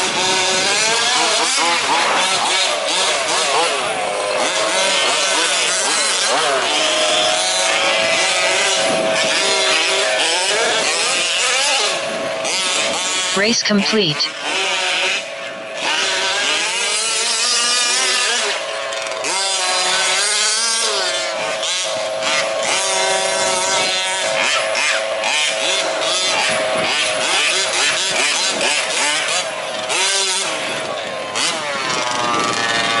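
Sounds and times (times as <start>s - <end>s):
small two-stroke engines revving: 0.0s - 33.0s
steady engine tone: 0.0s - 33.0s.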